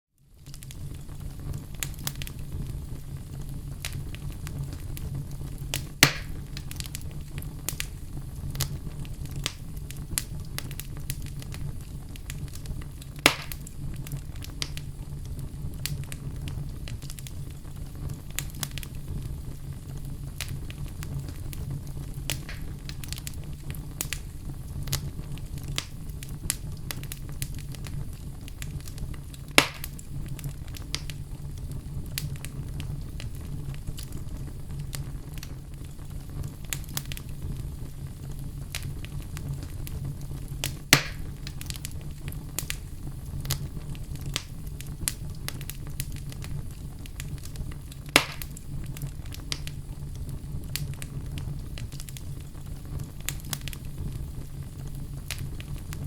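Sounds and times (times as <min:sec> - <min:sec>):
wood fire crackling: 0:00.2 - 0:56.0
loud fire pops: 0:00.3 - 0:56.0.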